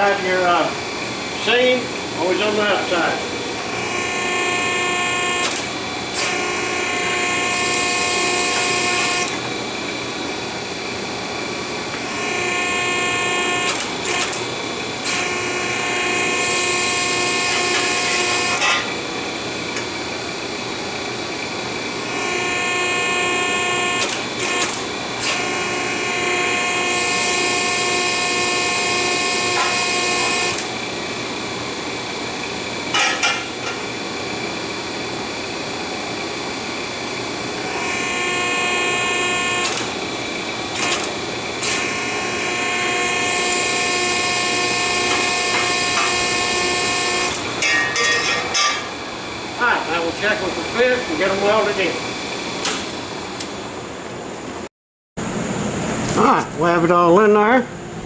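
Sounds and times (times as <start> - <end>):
motor whine: 0.0 - 47.6.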